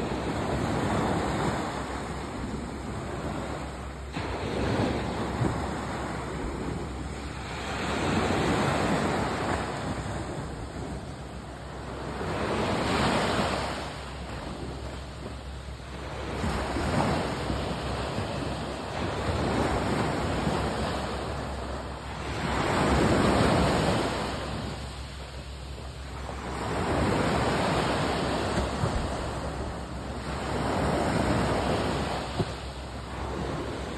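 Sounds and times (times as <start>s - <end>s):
waves washing up a beach: 0.0s - 33.9s.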